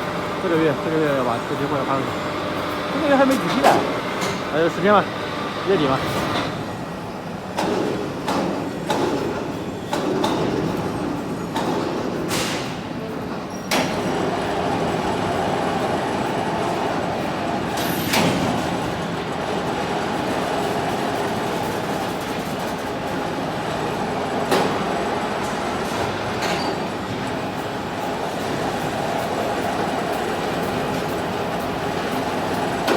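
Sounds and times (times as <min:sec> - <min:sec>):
factory machinery drone: 0:00.0 - 0:32.9.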